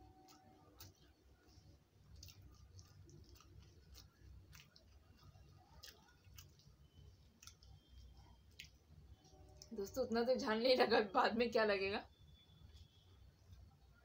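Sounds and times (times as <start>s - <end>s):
faint chewing: 0.0s - 10.4s, 12.3s - 14.0s.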